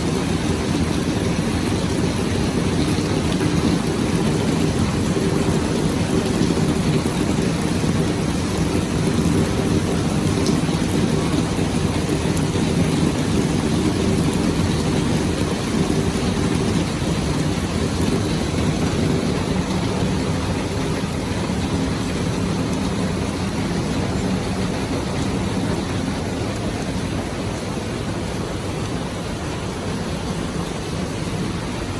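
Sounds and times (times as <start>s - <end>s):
heavy rain hiss: 0.0s - 31.9s.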